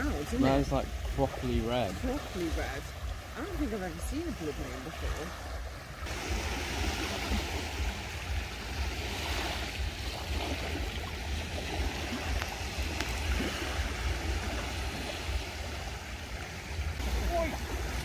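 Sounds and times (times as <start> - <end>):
waves washing on a beach: 0.0 - 18.0.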